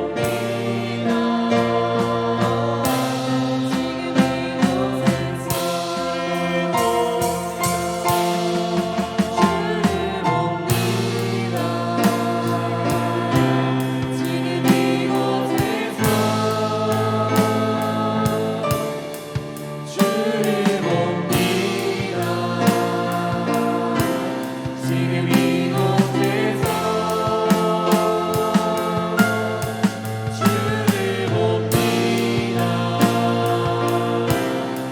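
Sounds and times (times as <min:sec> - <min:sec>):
band playing worship song: 0:00.0 - 0:34.9
group singing: 0:00.0 - 0:34.9.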